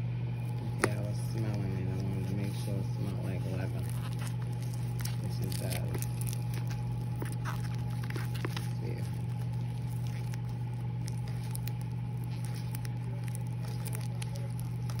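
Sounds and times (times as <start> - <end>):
steady low hum: 0.0 - 15.0
tissue paper rustling: 0.4 - 15.0.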